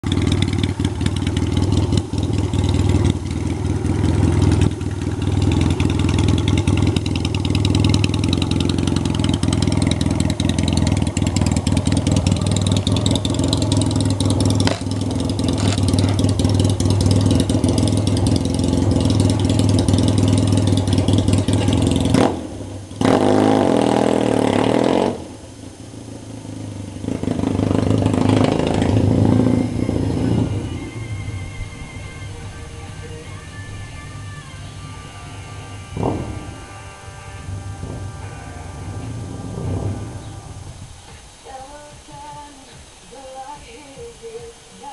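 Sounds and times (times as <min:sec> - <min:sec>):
motorcycle engine running: 0:00.0 - 0:41.3.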